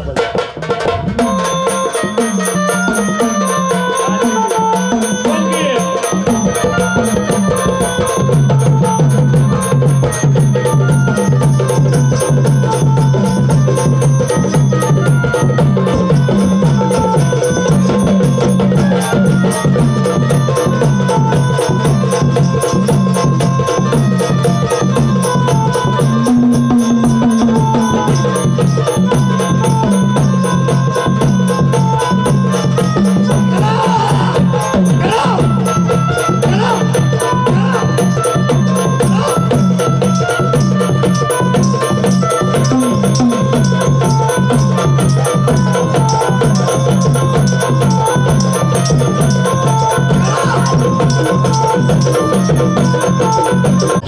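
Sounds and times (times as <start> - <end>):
drums: 0.0 - 54.0
stepping instrumental melody: 1.2 - 54.0.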